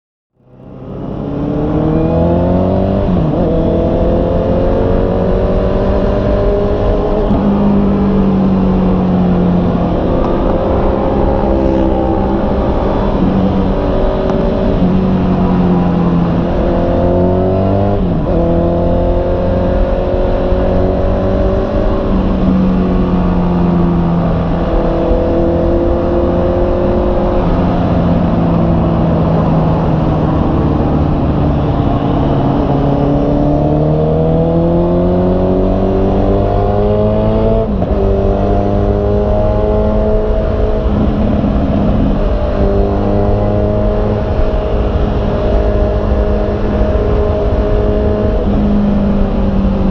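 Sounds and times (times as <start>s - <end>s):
wind and road noise: 0.3s - 49.9s
motorcycle engine revving: 0.4s - 49.9s.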